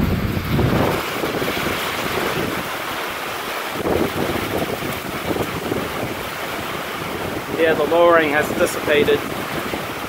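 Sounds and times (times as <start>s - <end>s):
heavy rain pouring: 0.0s - 10.0s
wind gusting over microphone: 0.0s - 10.0s.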